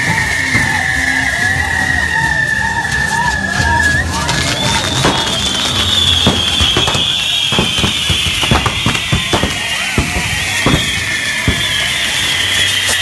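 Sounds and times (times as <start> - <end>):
firecracker bangs and crackles: 0.0 - 13.0
firework whistle falling in pitch: 0.0 - 13.0.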